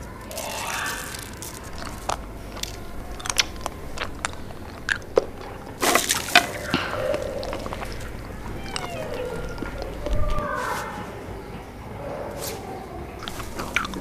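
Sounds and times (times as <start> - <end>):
child chewing crunchy food: 0.0 - 11.2, 13.2 - 14.0.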